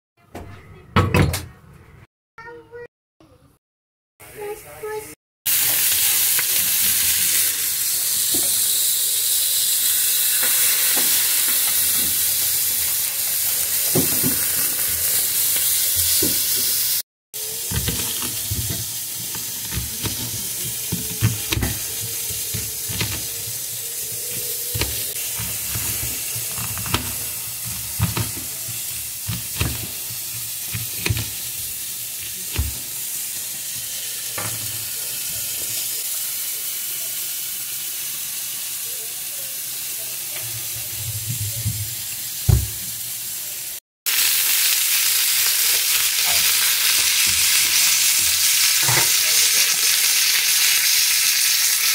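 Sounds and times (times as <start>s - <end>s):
burger patties sizzling on grill: 4.4s - 51.9s.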